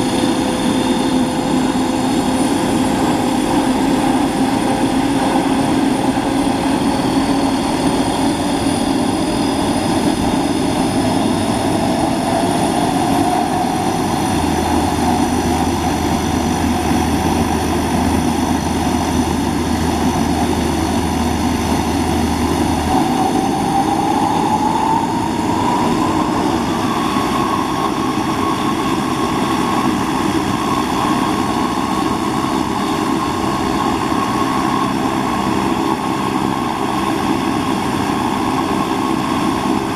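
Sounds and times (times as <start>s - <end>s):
rising engine whine: 0.0s - 39.9s
turboprop engine starting: 0.0s - 39.9s.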